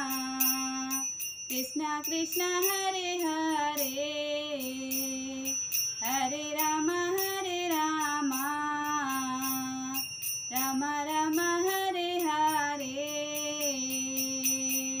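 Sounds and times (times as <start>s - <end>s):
metallic jingles beat: 0.0s - 15.0s
woman singing: 0.0s - 15.0s.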